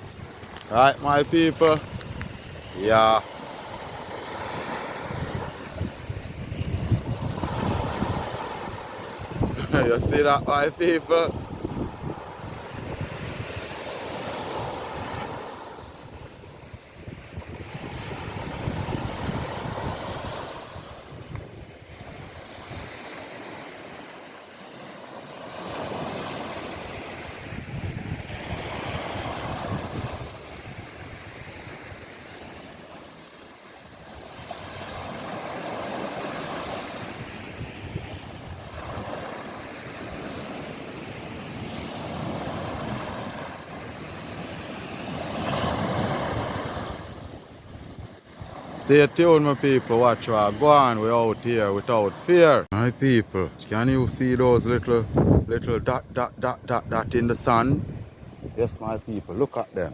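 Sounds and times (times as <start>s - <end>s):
wind buffeting microphone: 0.0s - 24.0s, 25.6s - 32.9s, 33.9s - 48.8s, 53.3s - 59.9s
surf washing onto shore: 0.0s - 59.9s.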